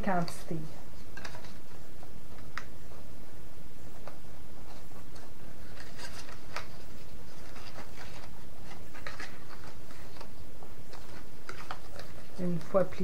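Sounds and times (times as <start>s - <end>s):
cardstock rustling and creasing: 0.0s - 3.1s, 3.8s - 13.0s
low background hum: 0.0s - 13.0s.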